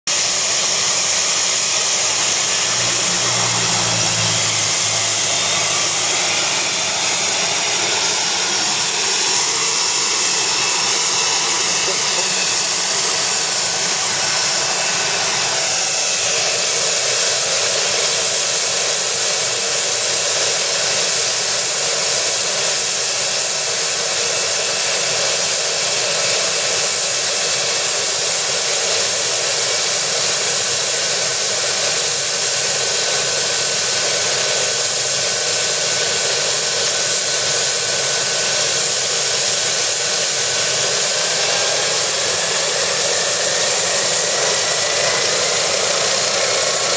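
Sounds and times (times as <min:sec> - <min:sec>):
helicopter rotor rushing: 0:00.1 - 0:46.9
helicopter turbine whine: 0:00.1 - 0:46.9.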